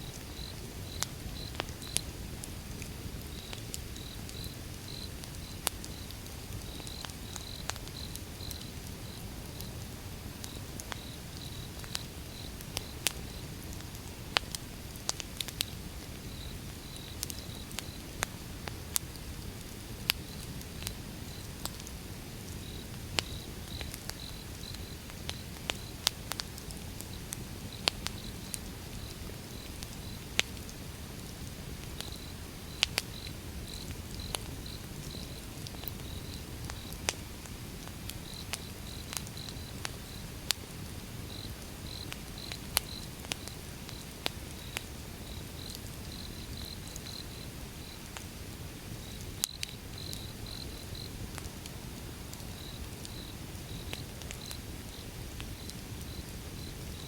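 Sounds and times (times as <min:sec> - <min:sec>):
crickets chirping: 0:00.0 - 0:02.6, 0:03.2 - 0:13.6, 0:15.6 - 0:18.8, 0:21.1 - 0:26.0, 0:27.1 - 0:30.3, 0:31.6 - 0:48.1, 0:48.7 - 0:51.2, 0:51.9 - 0:57.0
wood fire crackling and popping: 0:00.1 - 0:57.0.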